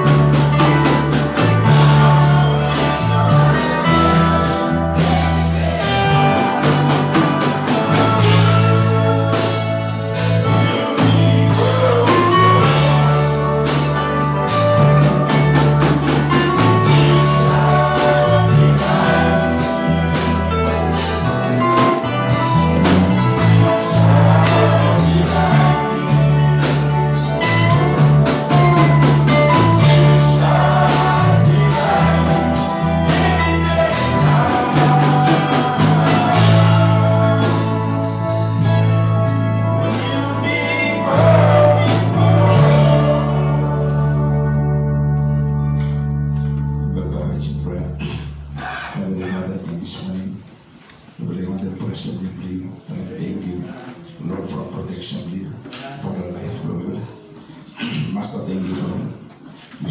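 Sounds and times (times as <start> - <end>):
strummed guitar: 0.0 - 48.7
gospel singing: 0.0 - 50.2
bass line: 0.0 - 50.5.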